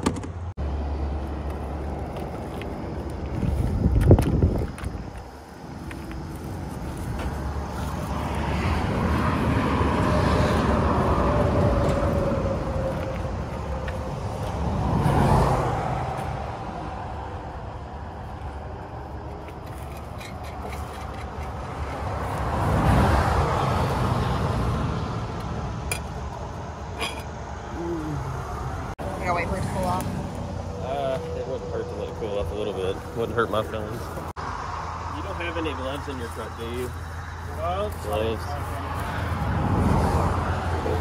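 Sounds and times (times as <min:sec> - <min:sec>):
highway traffic passing at speed: 0:00.0 - 0:41.0.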